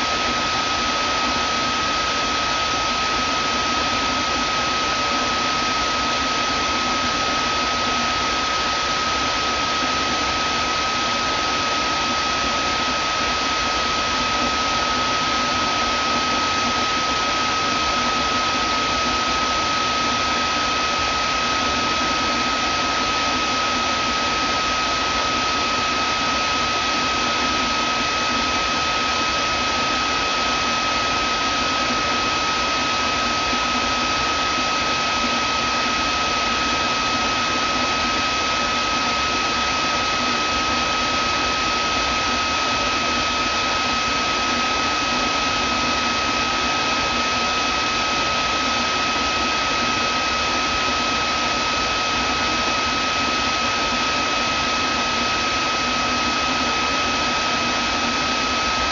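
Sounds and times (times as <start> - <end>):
vacuum cleaner motor running: 0.0 - 58.9.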